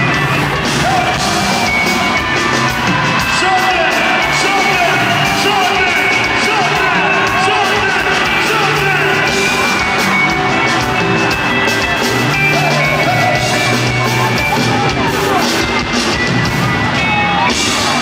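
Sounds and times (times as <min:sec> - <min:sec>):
crowd yelling and singing along: 0:00.0 - 0:18.0
live band playing loudly: 0:00.0 - 0:18.0.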